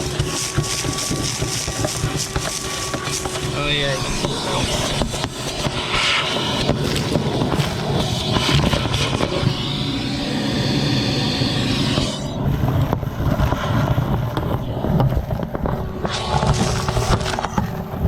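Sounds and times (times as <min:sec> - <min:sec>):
vacuum cleaner sucking: 0:00.0 - 0:12.9, 0:15.9 - 0:18.0
nozzle scraping: 0:00.0 - 0:18.0.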